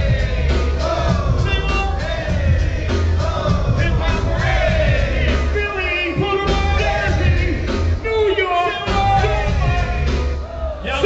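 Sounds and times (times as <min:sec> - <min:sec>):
person rapping over a beat: 0:00.0 - 0:10.3
heavy bass beat: 0:00.0 - 0:10.8.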